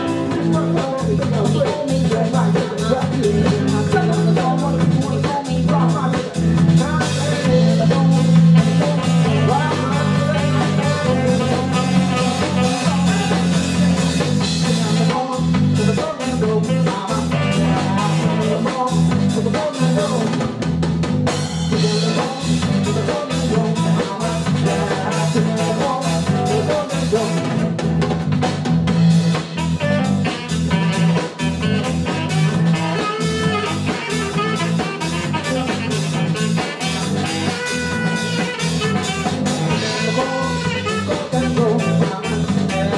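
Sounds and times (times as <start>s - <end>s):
drum kit playing: 0.0s - 42.9s
electric bass: 0.0s - 42.9s
guitar: 0.0s - 42.9s.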